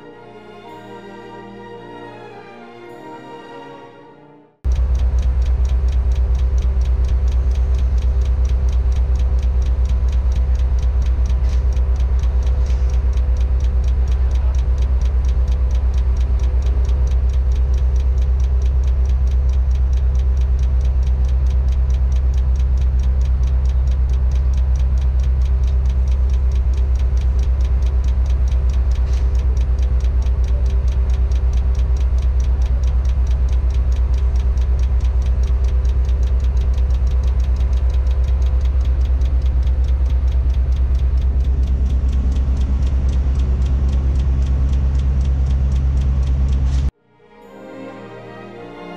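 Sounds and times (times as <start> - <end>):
diesel engine running: 4.6 - 46.9
fast regular ticking: 4.6 - 46.9.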